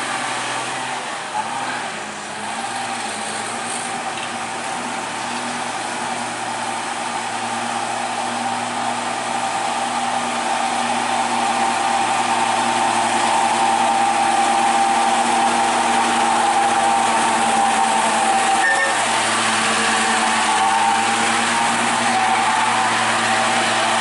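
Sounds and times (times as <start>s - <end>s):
truck engine under load: 0.0s - 24.0s.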